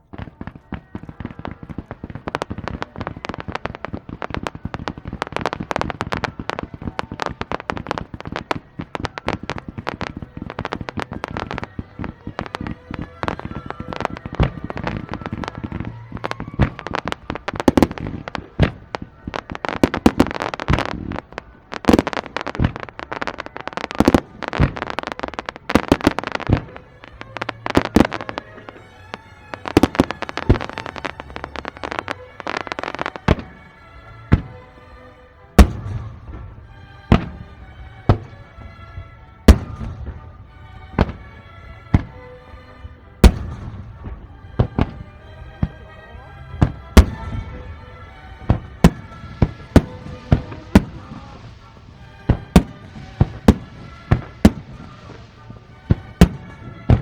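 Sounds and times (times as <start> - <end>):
fireworks bursting: 0.0 - 57.0
music: 0.0 - 57.0.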